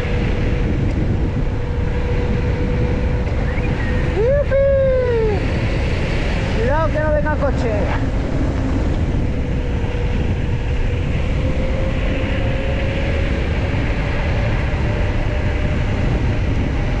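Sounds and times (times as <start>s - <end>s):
bike tyre noise: 0.0s - 17.0s
wind on microphone: 0.0s - 17.0s.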